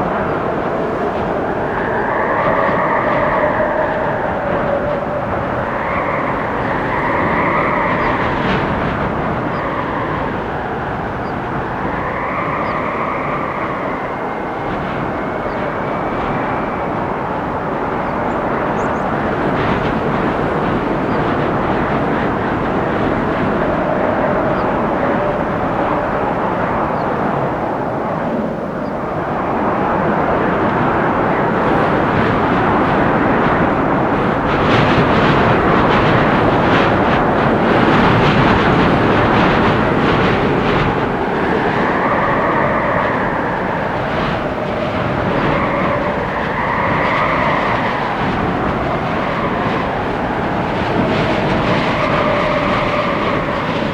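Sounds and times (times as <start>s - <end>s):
wavering wind whistle: 0.0s - 53.9s
wind rushing through trees: 0.0s - 53.9s.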